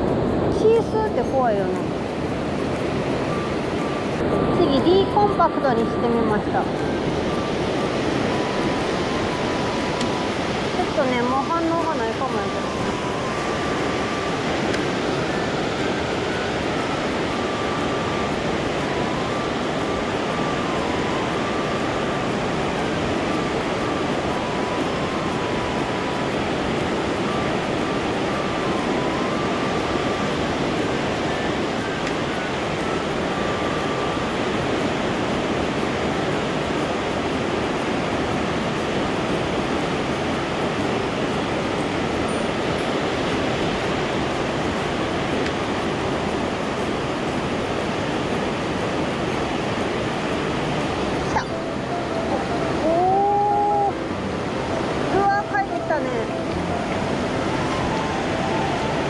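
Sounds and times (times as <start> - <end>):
river water rushing over weir: 0.0 - 59.0.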